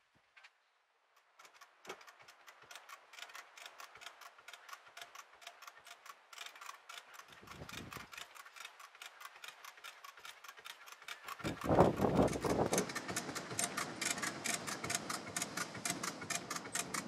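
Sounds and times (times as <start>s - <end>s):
ratchet winch pawl clicking: 1.2s - 17.0s.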